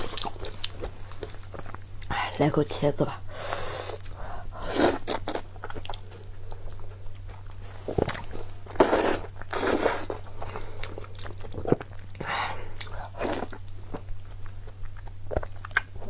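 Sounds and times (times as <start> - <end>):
person chewing food: 0.0 - 2.1, 3.6 - 16.0
faint low hum: 0.0 - 16.0.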